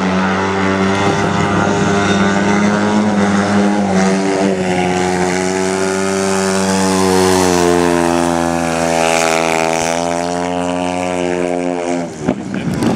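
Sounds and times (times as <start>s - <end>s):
motorcycle engine buzzing: 0.0s - 12.9s.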